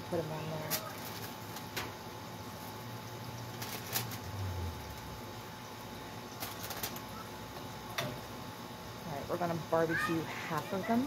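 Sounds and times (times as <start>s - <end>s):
ribs sizzling on a grill: 0.0s - 11.0s.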